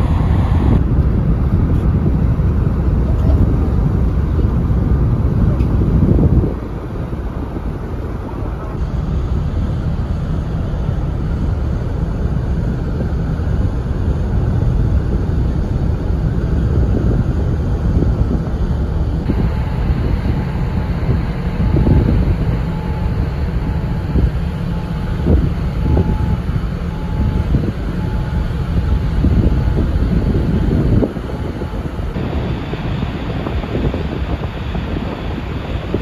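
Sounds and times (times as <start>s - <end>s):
ship engine low rumble: 0.0s - 36.0s
wind gusting on microphone: 0.0s - 36.0s.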